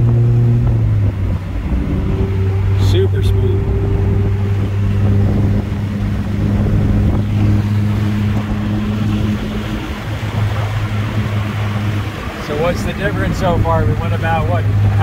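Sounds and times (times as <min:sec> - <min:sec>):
car engine humming: 0:00.0 - 0:15.0
wind and road noise: 0:00.0 - 0:15.0.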